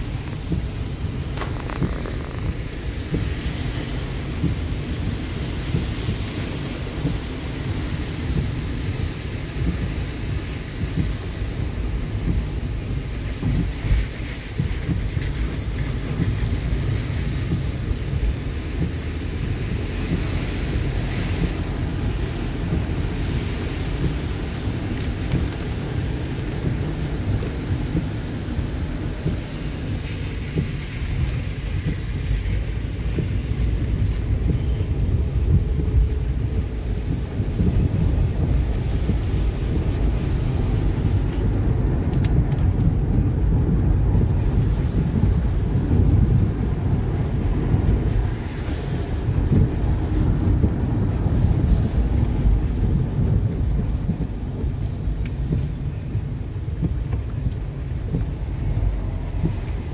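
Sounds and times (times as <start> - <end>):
car rumble from inside cabin: 0.0 - 59.9
tyres and rain hissing: 0.0 - 59.9.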